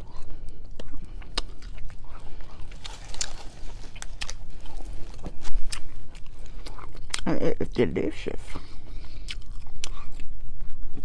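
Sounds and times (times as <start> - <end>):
chewing: 0.0 - 7.4, 8.5 - 11.0.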